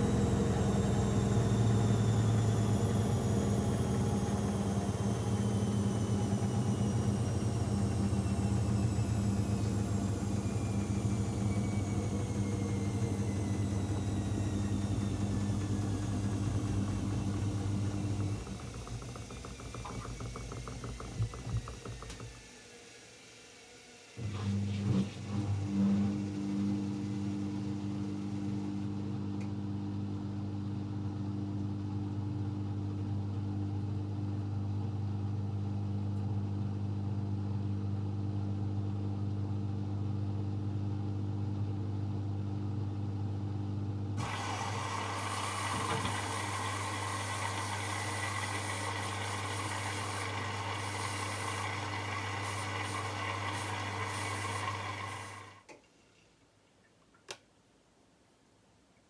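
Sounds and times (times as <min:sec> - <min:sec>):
washing machine humming: 0:00.0 - 0:37.6, 0:38.3 - 0:55.7.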